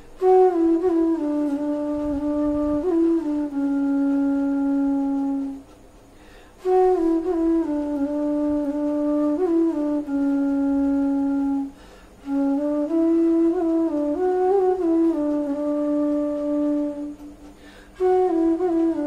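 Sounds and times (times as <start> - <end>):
bamboo flute playing low notes: 0.0 - 19.0.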